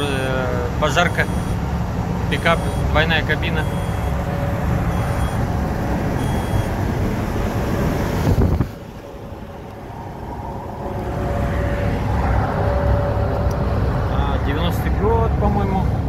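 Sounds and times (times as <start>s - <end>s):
engine and road noise in cab: 0.0s - 16.0s.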